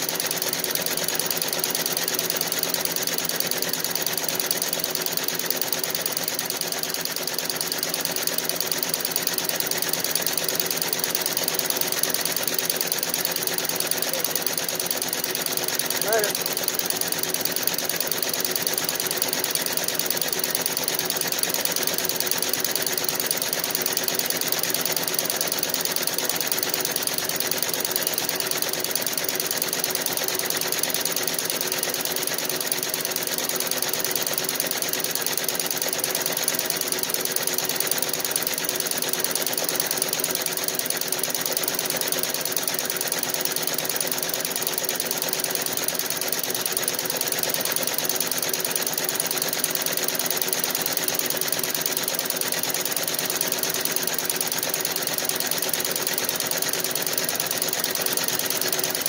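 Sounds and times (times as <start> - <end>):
embroidery machine mechanical clatter: 0.0 - 59.0.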